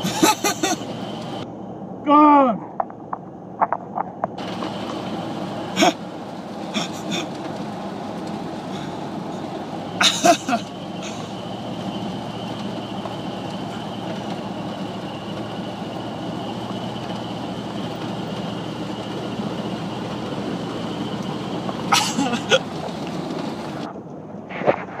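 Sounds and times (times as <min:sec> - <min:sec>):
truck driving on gravel: 0:00.0 - 0:01.9, 0:02.8 - 0:25.0.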